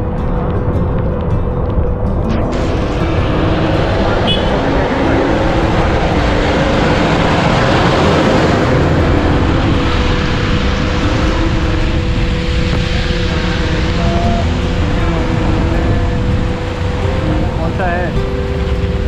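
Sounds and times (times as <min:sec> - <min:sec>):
motorcycle engine running: 0:00.0 - 0:19.0
wind on microphone: 0:00.0 - 0:19.0.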